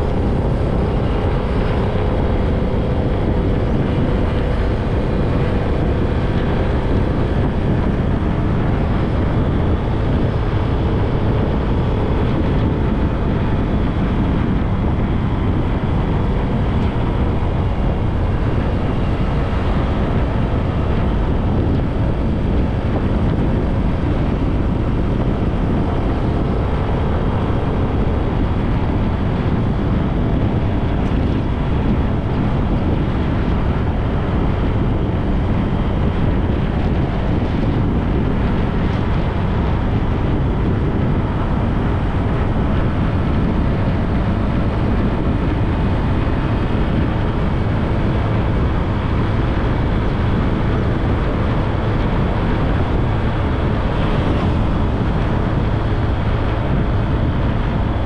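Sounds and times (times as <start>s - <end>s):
low rumble of bike riding: 0.0s - 58.0s
wind buffeting microphone: 0.0s - 58.0s.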